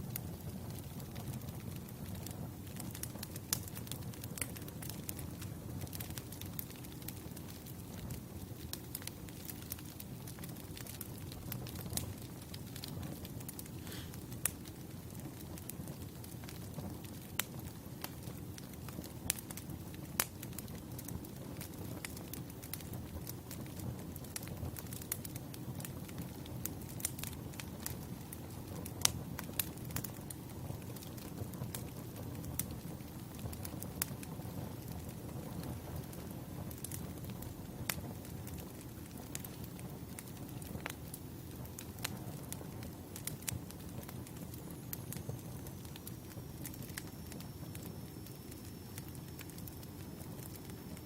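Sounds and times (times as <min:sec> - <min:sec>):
low rumble of flames: 0:00.0 - 0:51.0
wood fire crackling: 0:00.0 - 0:51.0.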